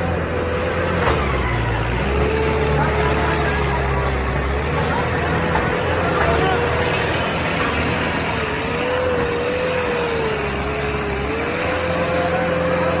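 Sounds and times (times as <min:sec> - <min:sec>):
tractor engine whining: 0:00.0 - 0:13.0.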